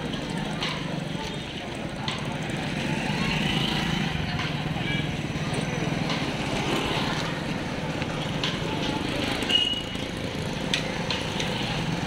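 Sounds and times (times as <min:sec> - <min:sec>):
motor vehicles running: 0:00.0 - 0:12.0
people's voices: 0:00.0 - 0:12.0.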